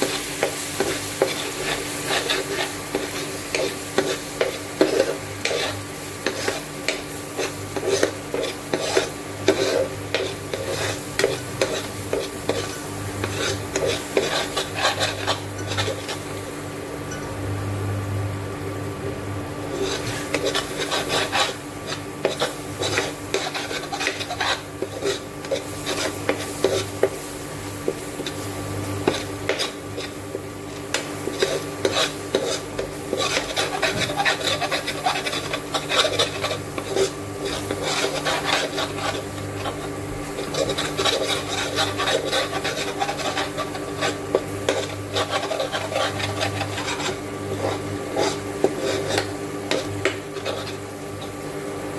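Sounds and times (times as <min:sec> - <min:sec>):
metal spoon scraping pan: 0:00.0 - 0:16.3, 0:19.7 - 0:27.1, 0:30.9 - 0:50.8.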